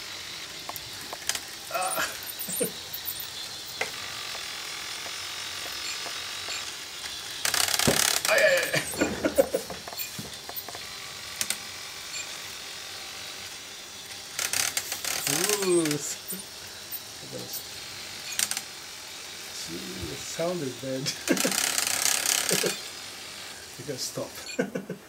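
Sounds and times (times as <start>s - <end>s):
toy robot motors whirring: 0.0s - 24.9s.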